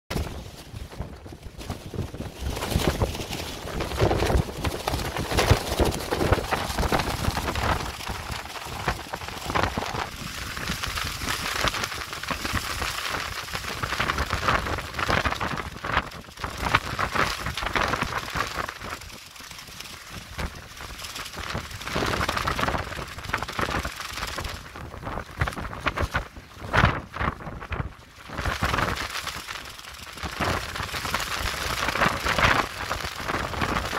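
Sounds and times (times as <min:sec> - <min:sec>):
plastic sheeting flapping: 0:00.1 - 0:33.9
wind buffeting microphone: 0:00.1 - 0:33.9.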